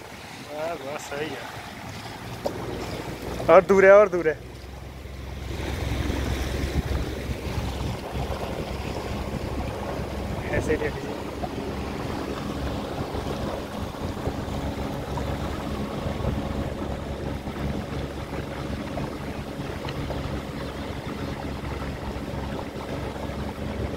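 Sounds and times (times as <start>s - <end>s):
motorboat engine droning: 0.0s - 23.9s
water noise: 0.0s - 23.9s
wind buffeting microphone: 0.0s - 23.9s.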